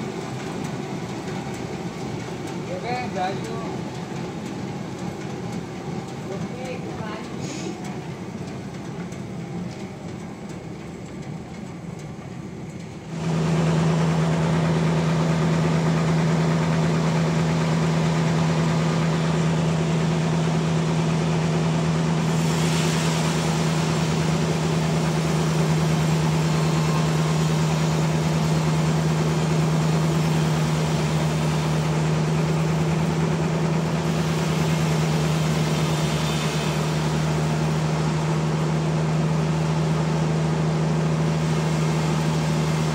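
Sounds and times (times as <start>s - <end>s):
sawmill machinery humming: 0.0s - 42.9s.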